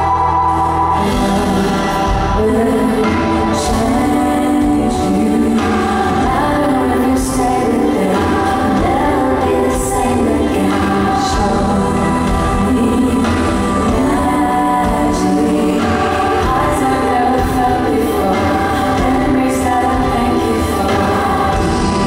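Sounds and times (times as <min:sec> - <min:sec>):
band backing: 0:00.0 - 0:22.0
keyboard chords: 0:00.0 - 0:22.0
woman singing: 0:00.0 - 0:22.0.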